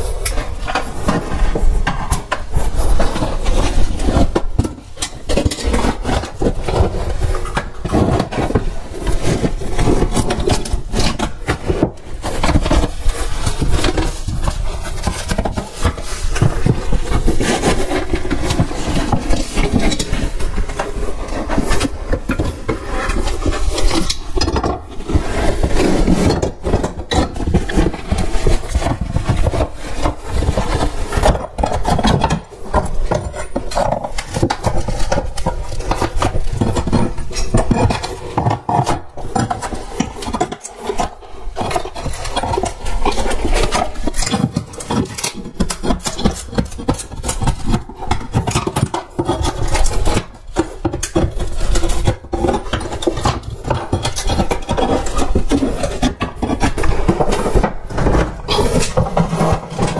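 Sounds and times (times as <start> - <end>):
tools scraping and knocking on wood: 0.0 - 59.9.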